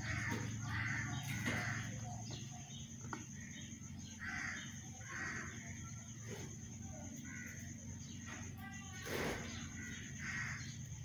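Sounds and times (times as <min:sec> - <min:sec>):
mynah birds harsh calls: 0:00.0 - 0:06.4, 0:07.2 - 0:11.0.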